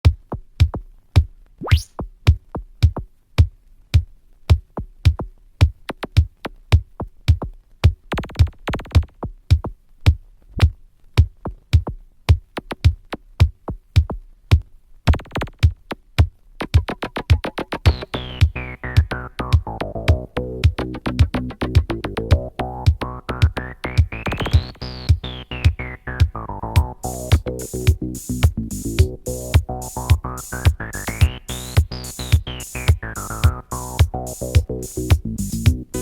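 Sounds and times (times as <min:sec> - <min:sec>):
drum machine beat: 0:00.0 - 0:36.0.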